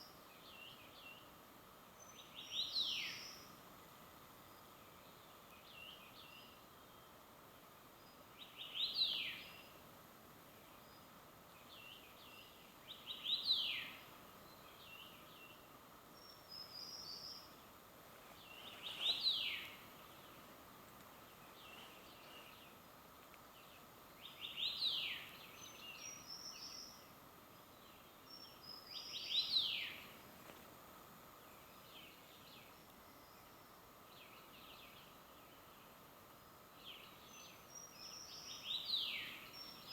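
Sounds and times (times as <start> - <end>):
songbird singing: 0.0 - 3.6, 8.0 - 9.8, 10.6 - 30.3, 31.2 - 39.9
steady background hiss: 0.0 - 39.9.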